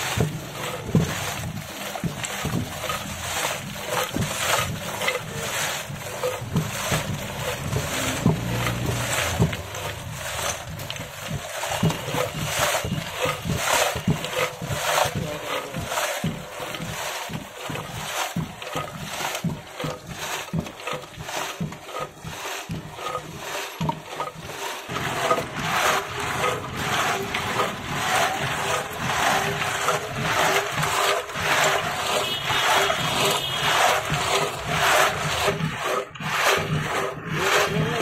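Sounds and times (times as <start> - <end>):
ice grinding in clay pot: 0.0 - 38.0.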